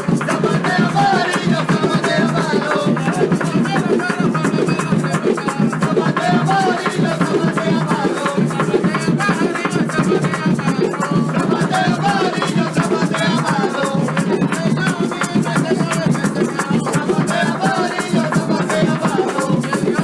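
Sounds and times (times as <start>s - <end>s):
background music with steady beat: 0.0s - 20.0s
maracas: 0.0s - 20.0s.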